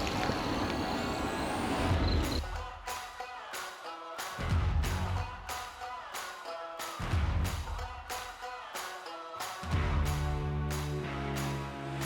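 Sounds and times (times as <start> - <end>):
background music with steady beat: 2.3 - 12.0.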